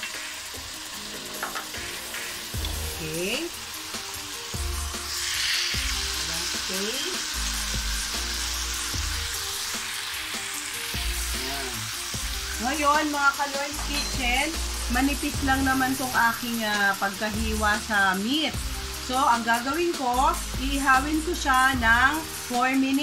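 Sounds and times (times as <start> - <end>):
steaks sizzling in a pan: 0.0 - 23.0.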